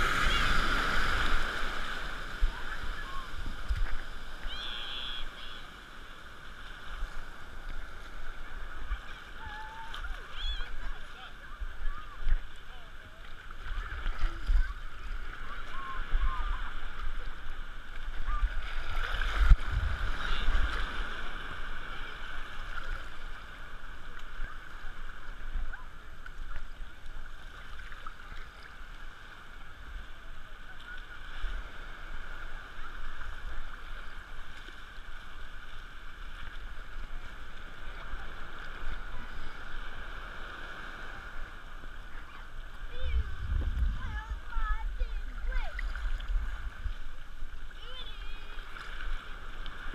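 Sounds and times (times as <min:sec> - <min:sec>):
water splash: 0:00.0 - 0:29.6, 0:30.6 - 0:49.9
water sloshing and lapping: 0:00.0 - 0:49.9.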